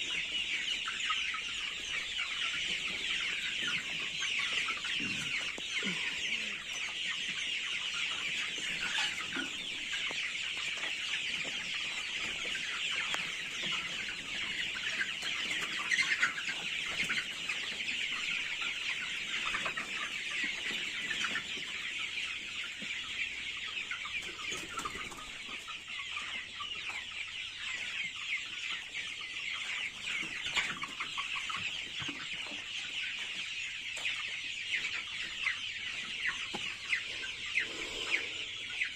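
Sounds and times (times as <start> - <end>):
chickens chirping and clucking: 0.0 - 38.9.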